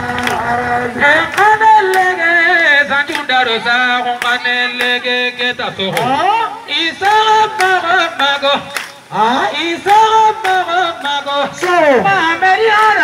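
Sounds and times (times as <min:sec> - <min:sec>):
sharp claps: 0:00.0 - 0:06.2, 0:07.0 - 0:09.1, 0:09.8 - 0:13.0
person chanting through loudspeaker: 0:00.0 - 0:13.0.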